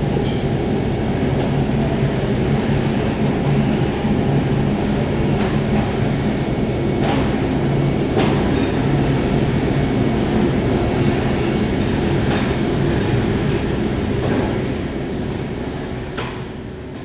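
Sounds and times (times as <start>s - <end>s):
muffled aircraft engines droning: 0.0s - 17.0s.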